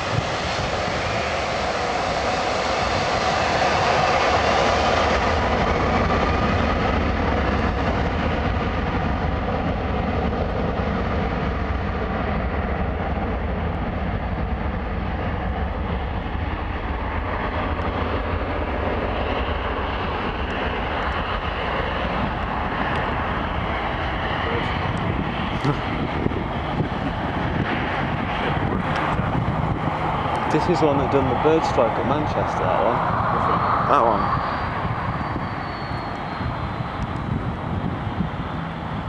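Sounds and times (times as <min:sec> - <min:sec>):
jet engines roaring at takeoff: 0:00.0 - 0:39.0.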